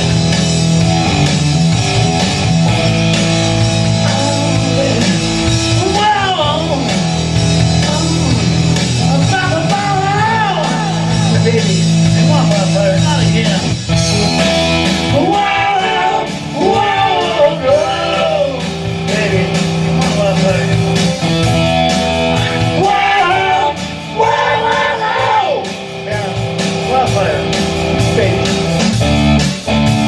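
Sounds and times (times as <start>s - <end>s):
glam metal rock music: 0.0s - 30.0s.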